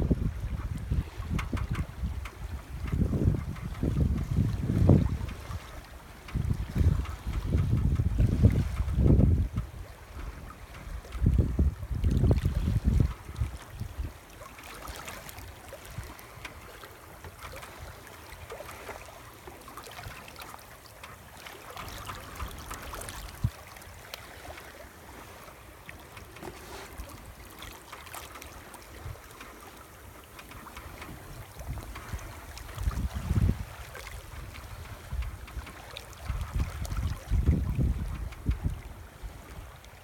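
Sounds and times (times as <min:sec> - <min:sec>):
water rushing along a hull: 0:00.0 - 0:40.0.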